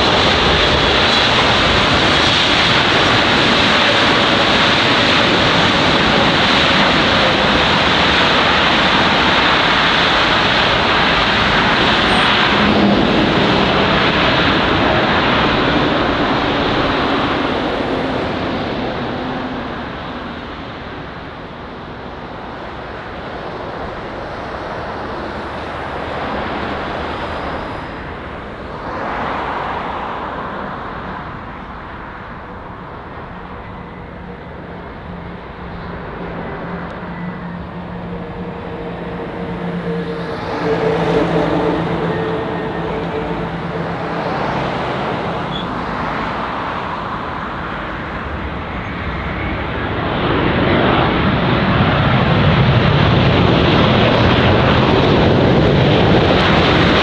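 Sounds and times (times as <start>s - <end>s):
jet airliner engines landing: 0.0s - 57.0s.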